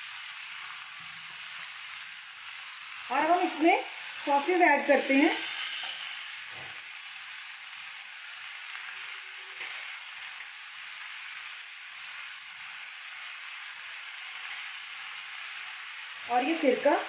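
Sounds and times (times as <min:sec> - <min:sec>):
rice and vegetables sizzling: 0:00.0 - 0:17.0.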